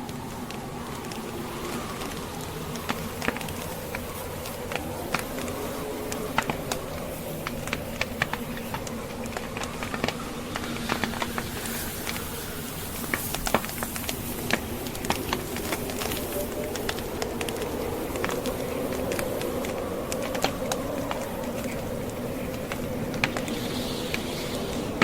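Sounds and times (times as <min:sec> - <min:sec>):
steady hiss: 0:00.0 - 0:25.0
wood fire crackling: 0:00.0 - 0:25.0.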